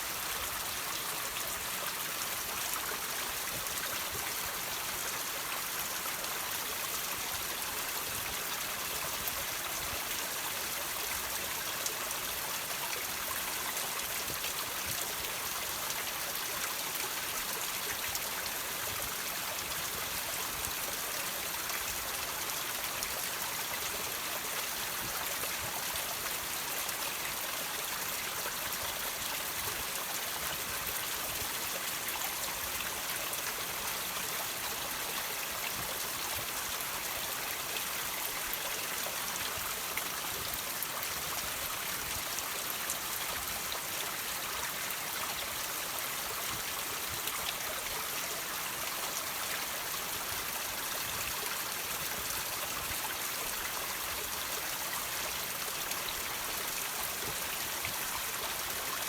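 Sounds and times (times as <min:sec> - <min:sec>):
water trickling over rocks: 0:00.0 - 0:59.0.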